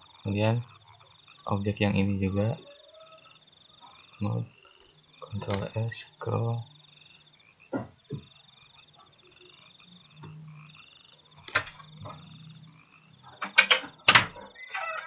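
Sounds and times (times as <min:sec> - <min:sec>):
faint low hum: 0:00.0 - 0:15.0
high-pitched pulsing animal trill: 0:00.0 - 0:15.0.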